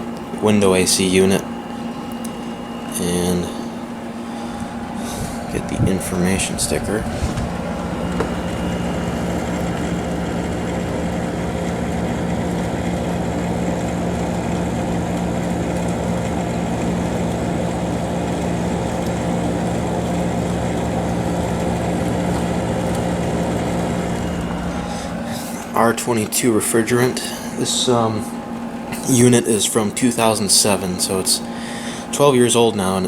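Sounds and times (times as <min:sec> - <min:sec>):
air conditioner humming: 0:00.0 - 0:33.0.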